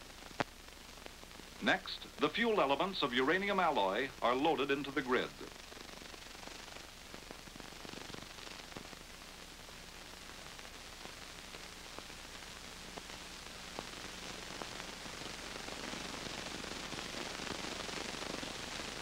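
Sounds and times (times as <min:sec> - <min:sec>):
film soundtrack hiss and crackle: 0:00.0 - 0:19.0
low steady hum: 0:00.0 - 0:19.0.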